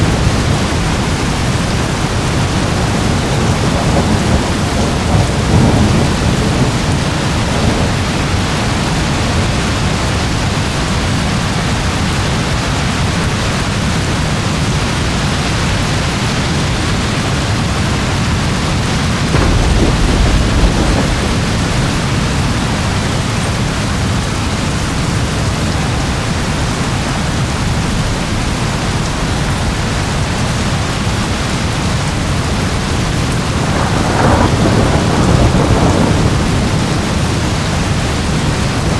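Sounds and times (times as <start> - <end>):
thunder rumbling: 0.0 - 12.1, 14.7 - 38.9
steady rain: 0.0 - 38.9.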